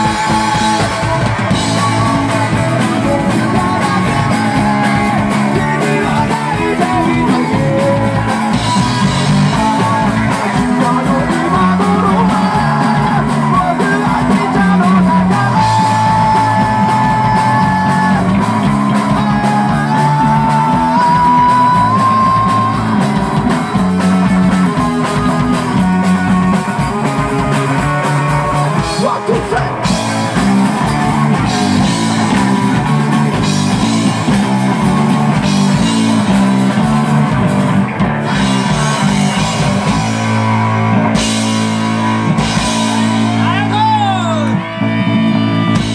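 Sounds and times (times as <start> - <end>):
lead vocal singing: 0.0 - 37.2, 37.9 - 40.5
live rock band playing: 0.0 - 45.9.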